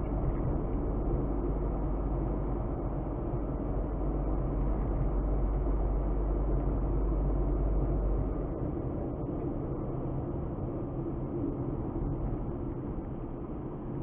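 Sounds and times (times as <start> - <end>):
car engine and tyre noise: 0.0 - 14.0
deep rumble: 0.0 - 14.0.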